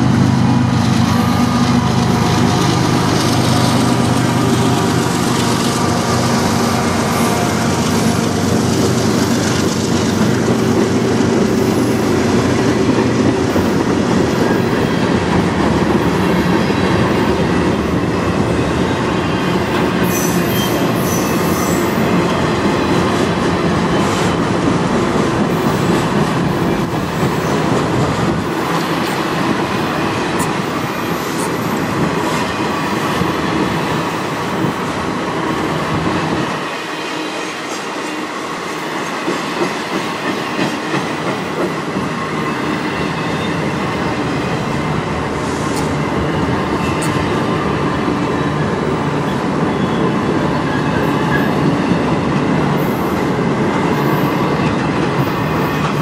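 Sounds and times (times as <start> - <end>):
sharp clacks of train wheels: 0.0 - 18.6, 19.4 - 56.0
train wheels rumbling on rails: 0.0 - 56.0.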